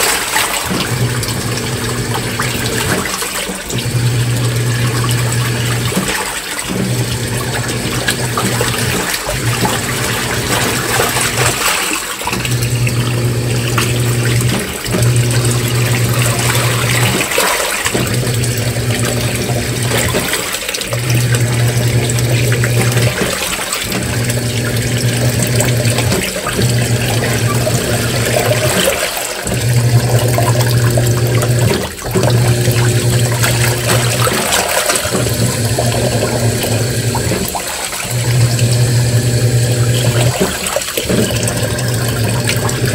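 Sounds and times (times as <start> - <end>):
washing machine motor humming: 0.0 - 42.9
water and clothes sloshing: 0.0 - 42.9.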